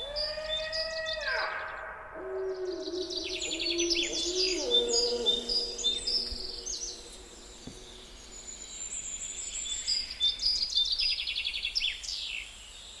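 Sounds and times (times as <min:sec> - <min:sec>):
steady background hiss: 0:01.9 - 0:13.0.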